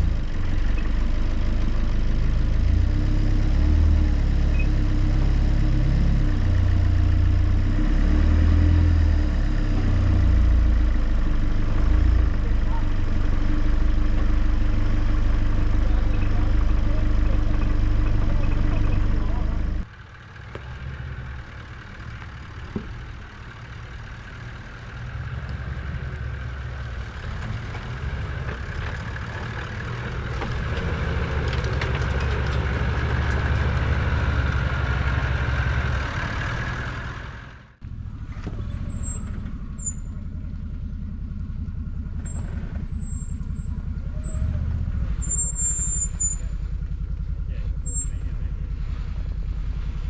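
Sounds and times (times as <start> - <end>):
off-road vehicle engine running: 0.0 - 50.0.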